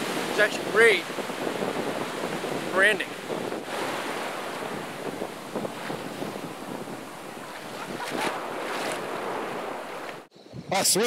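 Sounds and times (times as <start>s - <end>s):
ocean surf washing ashore: 0.0s - 11.0s
wind buffeting microphone: 0.0s - 11.0s.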